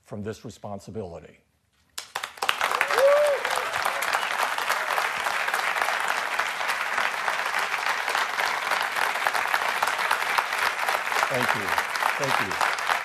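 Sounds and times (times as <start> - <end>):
large audience applauding: 2.0 - 13.0.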